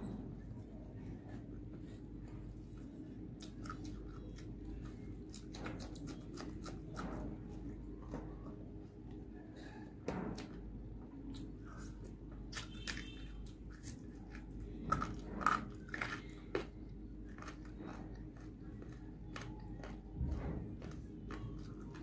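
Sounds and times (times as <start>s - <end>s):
person chewing crunchy food: 0.8s - 7.9s, 11.3s - 22.0s.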